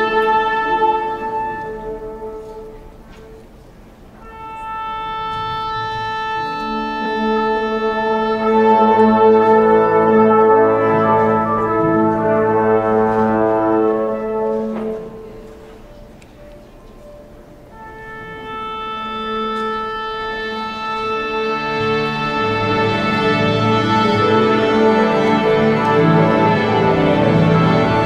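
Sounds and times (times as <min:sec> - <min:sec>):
orchestral brass chords: 0:00.0 - 0:16.2, 0:17.1 - 0:28.0.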